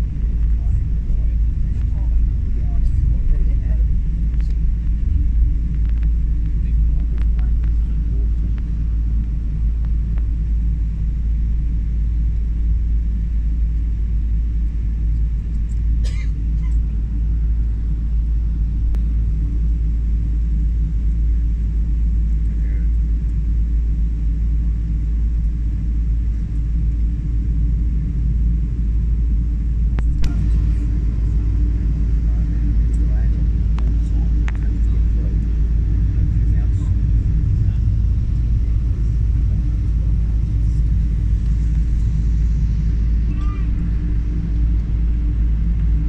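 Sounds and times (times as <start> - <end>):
low rumble of aircraft engines: 0.0 - 46.0.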